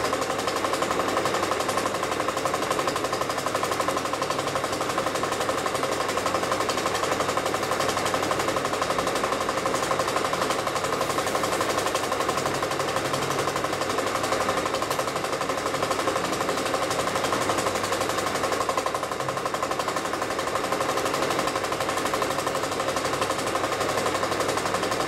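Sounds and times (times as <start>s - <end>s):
film projector clatter: 0.0s - 25.0s.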